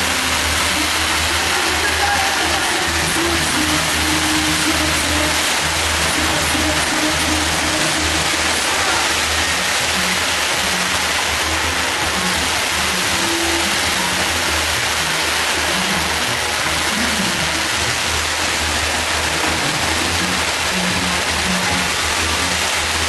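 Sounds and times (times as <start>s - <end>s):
fireworks hissing and fizzing: 0.0s - 23.0s.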